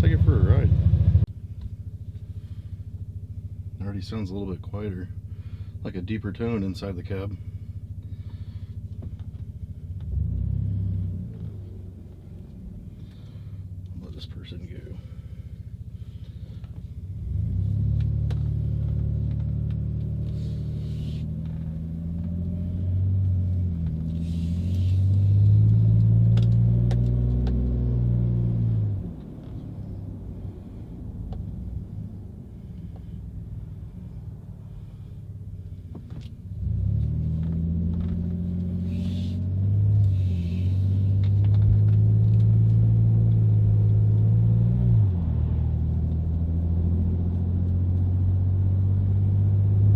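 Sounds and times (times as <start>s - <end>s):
truck exhaust accelerating: 0.0s - 49.9s.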